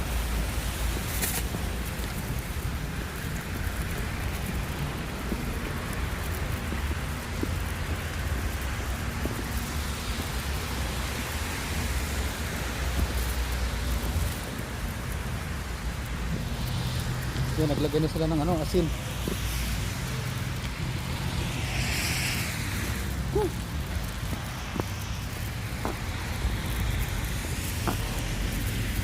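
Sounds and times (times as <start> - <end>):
snowstorm rushing hiss: 0.0 - 29.0
wind buffeting microphone: 0.0 - 29.0.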